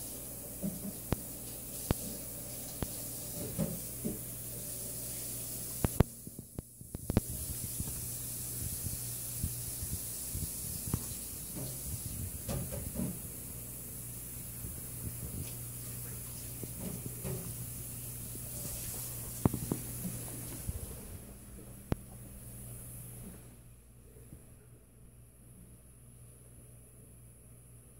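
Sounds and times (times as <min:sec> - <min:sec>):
steady hiss: 0:00.0 - 0:24.4.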